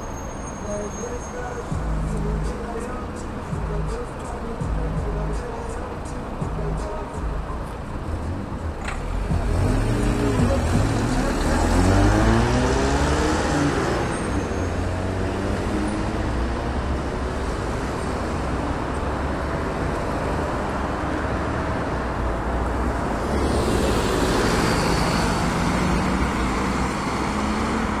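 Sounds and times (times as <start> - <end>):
bus diesel engine: 0.0 - 28.0
traffic noise: 0.0 - 28.0.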